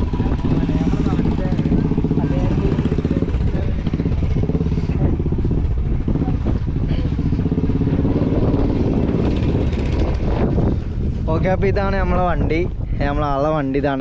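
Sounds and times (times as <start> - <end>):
vehicle engine running: 0.0 - 12.6.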